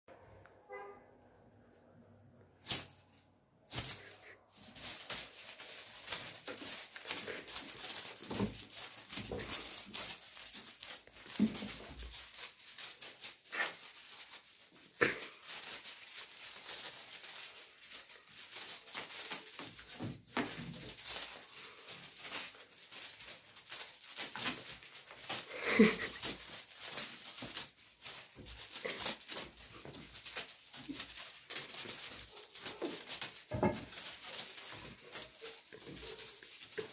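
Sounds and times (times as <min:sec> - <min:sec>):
kittens scrambling on fabric: 0:02.6 - 0:36.9.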